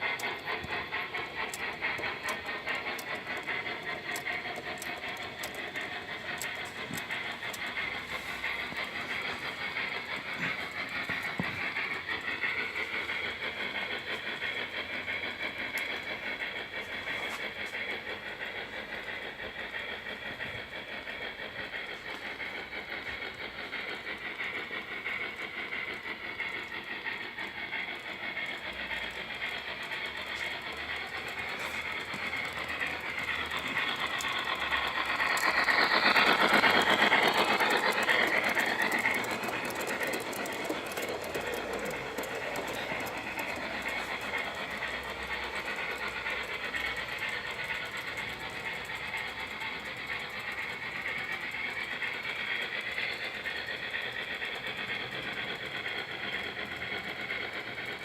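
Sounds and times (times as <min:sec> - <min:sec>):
model train wheels rattling on rails: 0:00.0 - 0:58.0.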